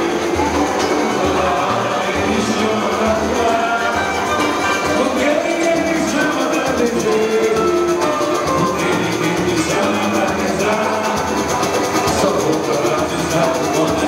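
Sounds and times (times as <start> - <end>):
carnival band playing: 0.0 - 14.0.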